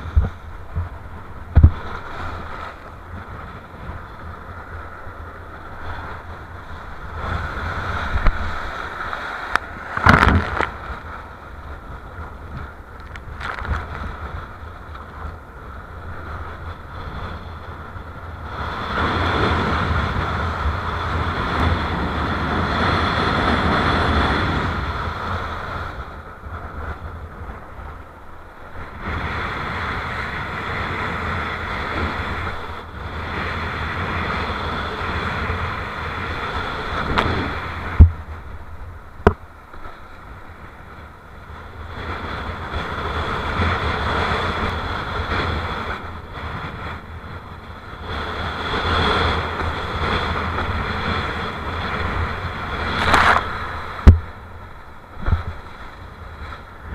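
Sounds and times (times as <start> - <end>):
water rushing under board: 0.0 - 56.9
wind buffeting microphone: 0.0 - 56.9.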